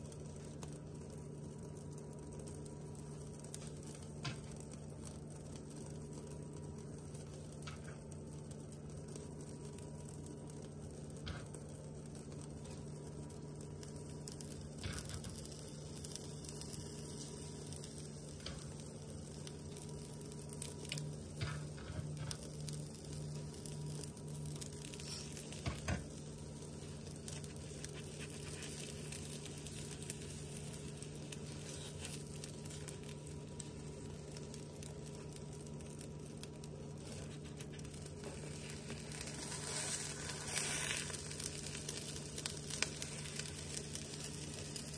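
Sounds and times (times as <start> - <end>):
crackling pops: 0.0 - 44.9
eggs sizzling in a frying pan: 0.0 - 44.9
low steady hum: 0.0 - 44.9.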